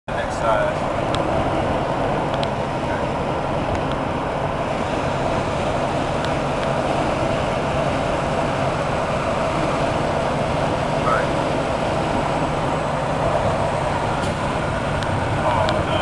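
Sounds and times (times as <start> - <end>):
truck cab road and engine rumble: 0.1 - 16.0.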